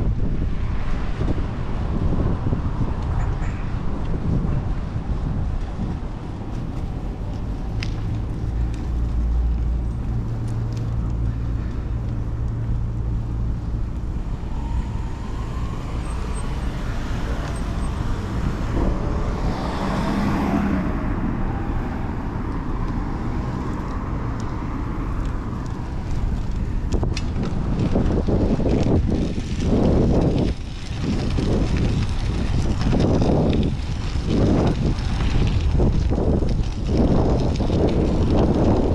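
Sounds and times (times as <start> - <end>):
road and wind noise: 0.0 - 38.9
low engine hum: 3.8 - 38.9
vehicle passing by: 5.7 - 38.7.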